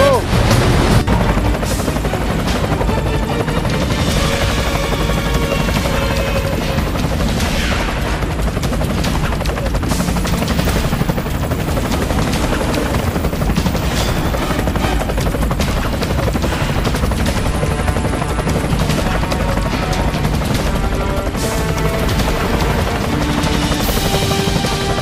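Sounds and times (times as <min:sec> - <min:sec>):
helicopter rotor and turbine: 0:00.0 - 0:25.0.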